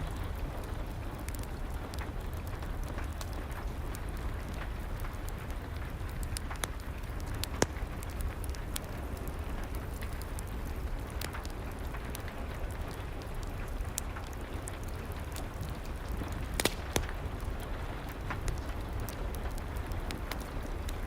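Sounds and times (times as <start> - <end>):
steady rain: 0.0 - 21.0
wood fire crackling and popping: 0.0 - 21.0.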